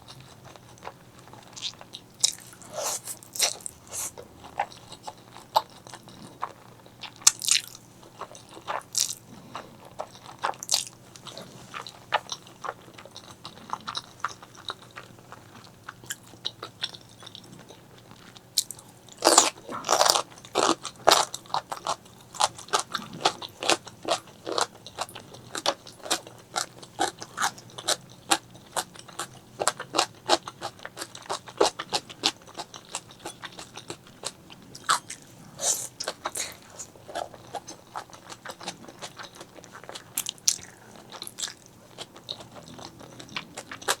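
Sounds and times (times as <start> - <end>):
person biting and chewing: 1.5 - 44.0.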